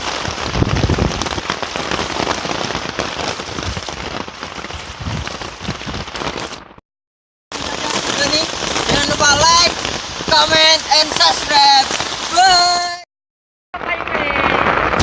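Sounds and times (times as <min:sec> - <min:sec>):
heavy rain pattering: 0:00.0 - 0:06.8, 0:07.5 - 0:13.0, 0:13.8 - 0:15.0.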